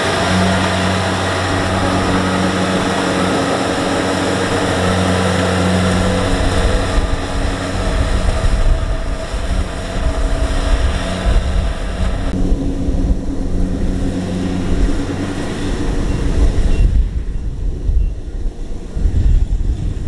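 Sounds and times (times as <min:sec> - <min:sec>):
combine harvester engine running: 0:00.0 - 0:19.0
rough low rumble: 0:00.0 - 0:20.0.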